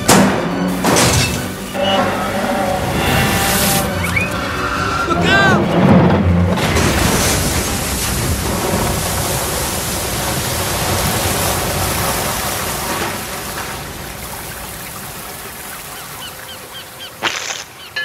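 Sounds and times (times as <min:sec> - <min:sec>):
torrent of water crashing: 0:02.7 - 0:17.8.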